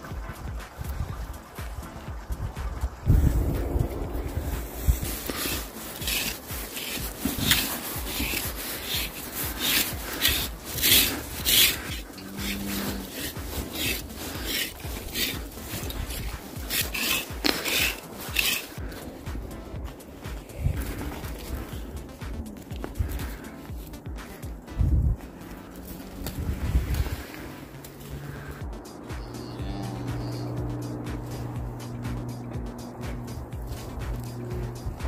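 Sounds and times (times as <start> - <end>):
brush scratching through animal coat: 3.0 - 29.4, 30.0 - 35.0.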